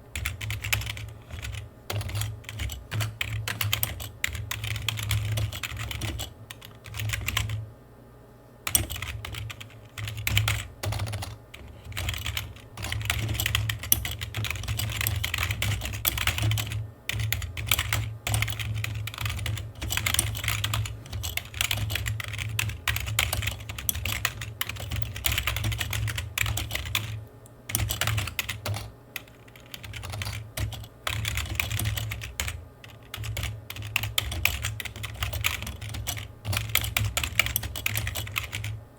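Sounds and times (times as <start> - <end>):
computer keyboard typing: 0.1 - 7.6, 8.7 - 38.8.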